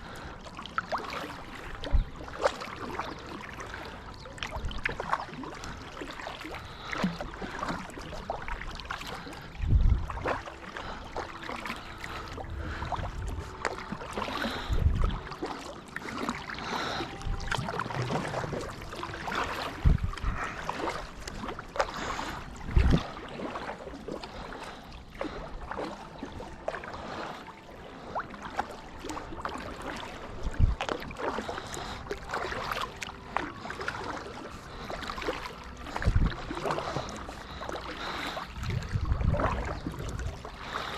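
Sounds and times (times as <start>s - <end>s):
water splashing against hull: 0.0s - 40.9s.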